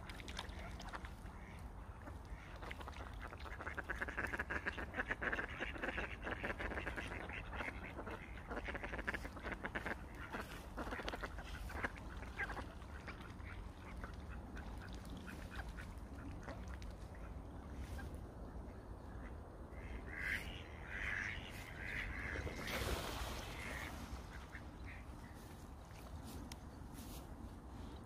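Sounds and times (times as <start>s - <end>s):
ducks quacking: 0.5s - 18.2s, 19.0s - 25.6s.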